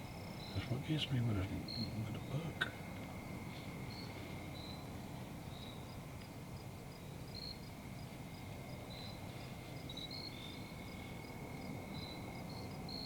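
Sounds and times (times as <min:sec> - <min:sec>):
insects trilling and chirping: 0:00.0 - 0:13.0.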